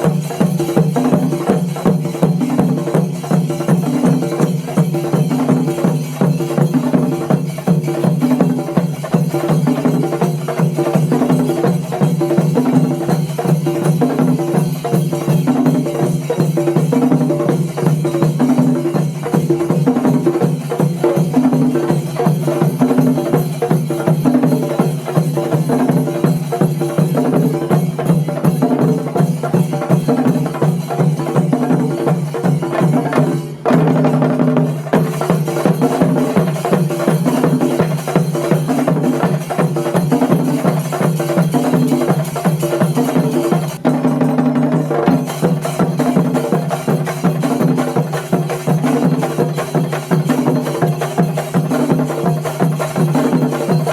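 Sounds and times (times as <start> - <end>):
fast dense drumming: 0.0 - 53.9.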